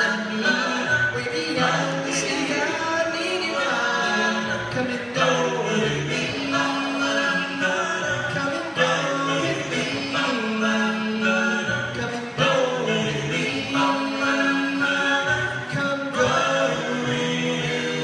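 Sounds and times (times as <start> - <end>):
vocal group singing in harmony: 0.0 - 18.0.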